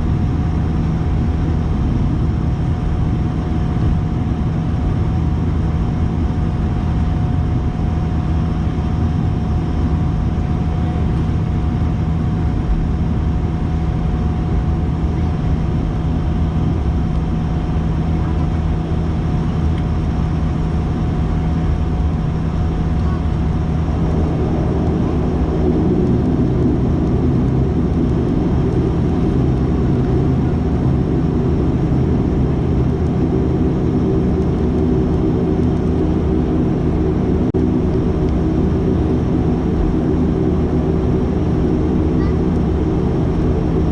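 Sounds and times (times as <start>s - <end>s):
turboprop engines in cabin: 0.0s - 43.9s.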